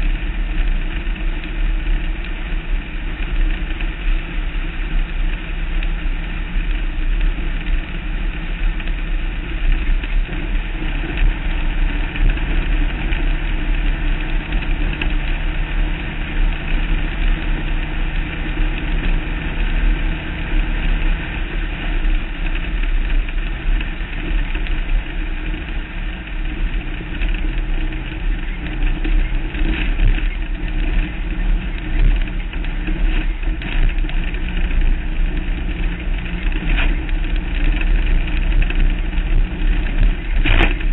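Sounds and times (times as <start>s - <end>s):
off-road vehicle engine running: 0.0s - 40.9s
tyre and chassis rumble: 0.0s - 40.9s.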